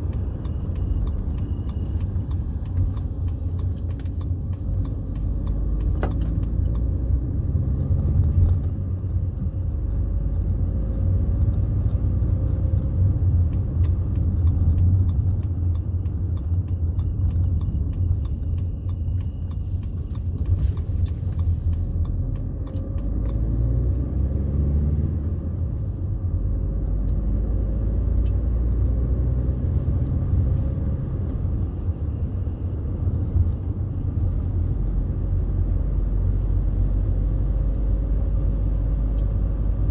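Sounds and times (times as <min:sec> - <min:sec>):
diesel car engine rumbling: 0:00.0 - 0:39.9
road noise: 0:00.0 - 0:39.9.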